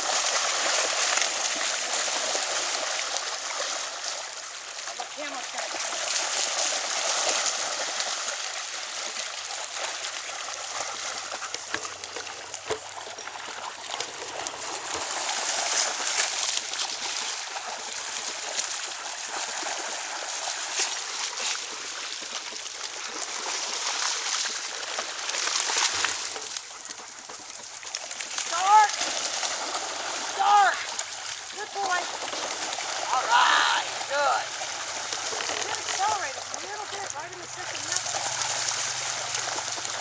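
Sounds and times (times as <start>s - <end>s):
dogs splashing in water: 0.0s - 40.0s.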